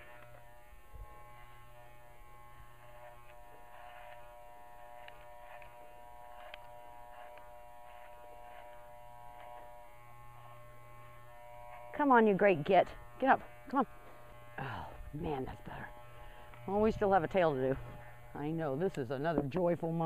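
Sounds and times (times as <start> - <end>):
blade scratching through fur: 0.0 - 20.0
electric clippers buzzing: 0.0 - 20.0.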